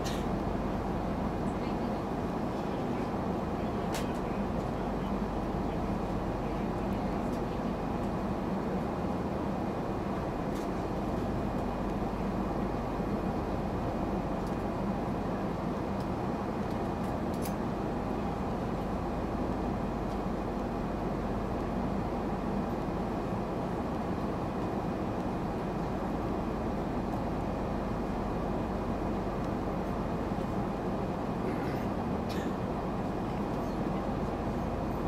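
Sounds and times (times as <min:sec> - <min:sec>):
airplane cabin engine hum: 0:00.0 - 0:35.0.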